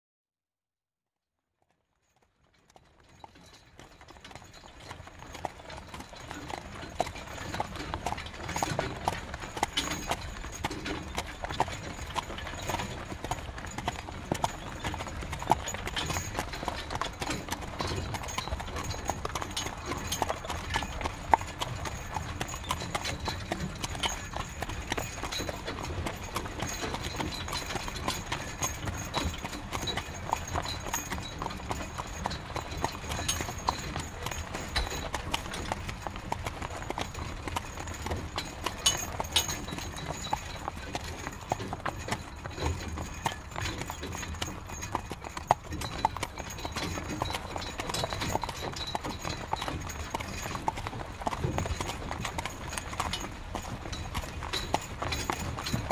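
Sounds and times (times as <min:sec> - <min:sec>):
horse hooves clip-clopping: 0:01.6 - 0:55.9.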